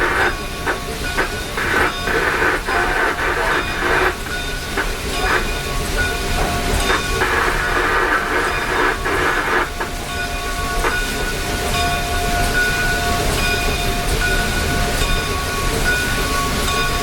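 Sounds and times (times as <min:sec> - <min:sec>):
locomotive low rumble: 0:00.0 - 0:17.0
multi-tone whine: 0:00.0 - 0:17.0
steam hiss: 0:00.0 - 0:17.0.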